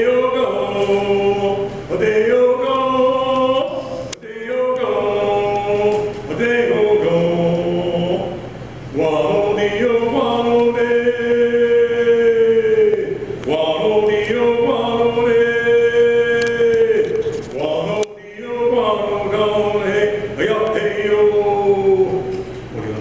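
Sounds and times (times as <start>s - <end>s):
man chanting in long held notes: 0.0s - 23.0s.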